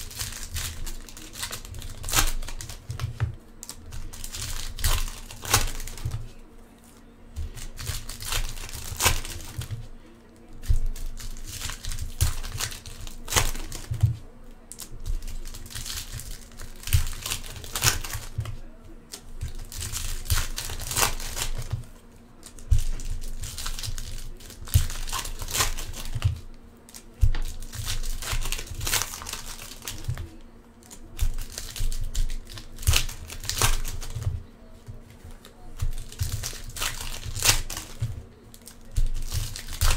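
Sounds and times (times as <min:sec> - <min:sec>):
foil wrappers crinkling and tearing: 0:00.0 - 0:39.9.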